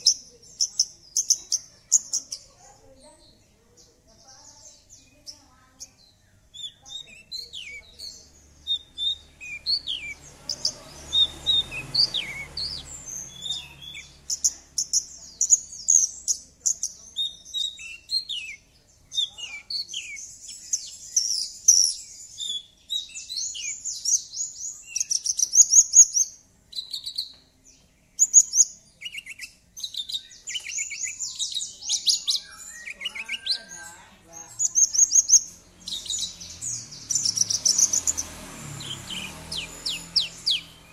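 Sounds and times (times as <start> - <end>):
lark singing: 0.0 - 40.9.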